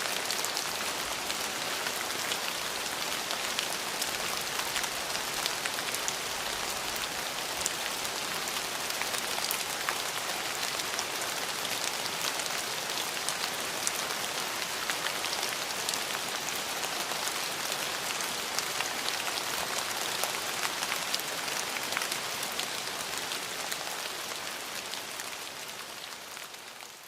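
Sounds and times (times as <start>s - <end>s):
rain falling on a surface: 0.0s - 27.0s.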